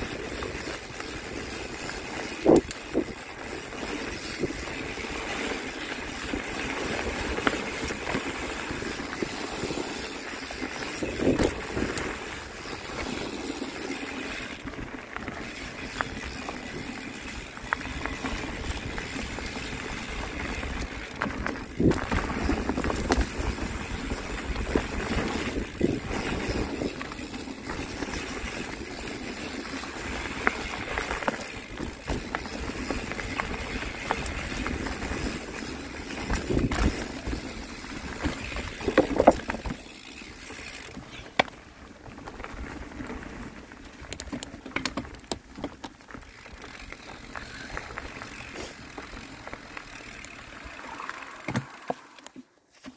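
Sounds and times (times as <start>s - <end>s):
bicycle tyres rumbling on dirt: 0.0s - 52.9s.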